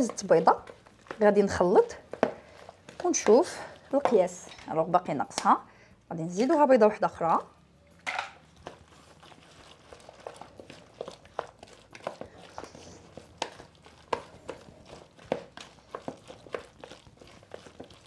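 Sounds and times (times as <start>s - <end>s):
food mix shifting: 0.0s - 5.5s, 6.4s - 18.0s.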